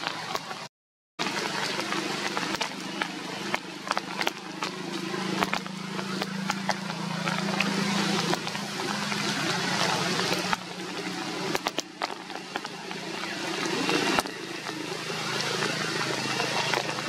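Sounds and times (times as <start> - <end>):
steady rain hiss: 1.2 - 17.0.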